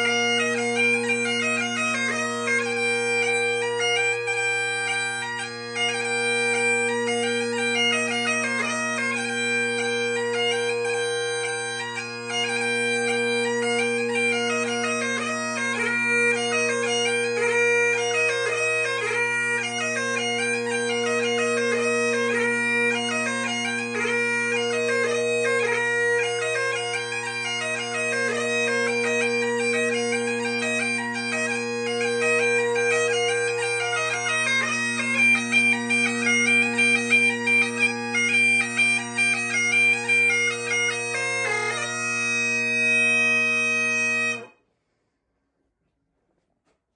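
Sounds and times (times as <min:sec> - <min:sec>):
bagpipe chanter melody: 0:00.0 - 0:44.6
bagpipe drones humming: 0:00.0 - 0:44.6.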